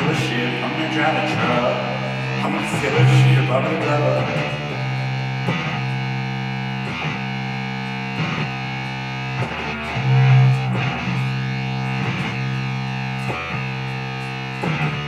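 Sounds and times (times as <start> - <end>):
distorted electric guitar strumming: 0.0 - 15.0.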